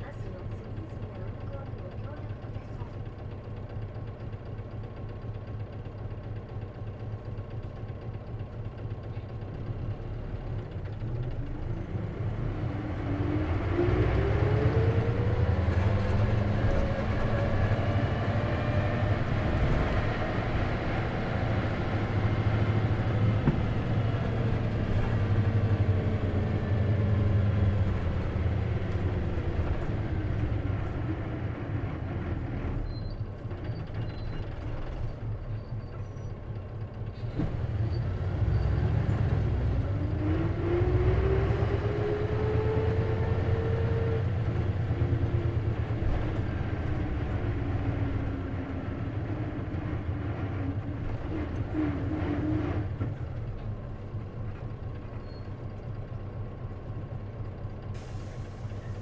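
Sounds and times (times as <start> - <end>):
bus engine running: 0.0 - 59.0.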